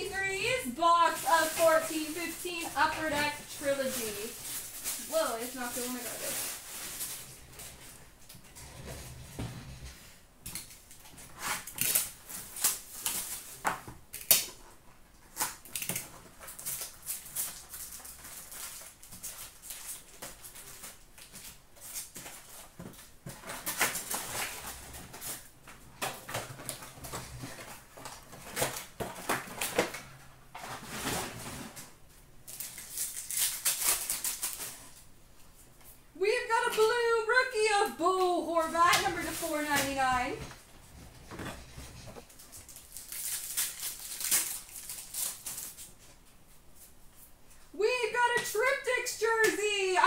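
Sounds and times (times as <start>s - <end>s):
wrapper and cardboard crinkling: 0.0s - 8.2s, 10.5s - 35.1s, 36.4s - 47.3s.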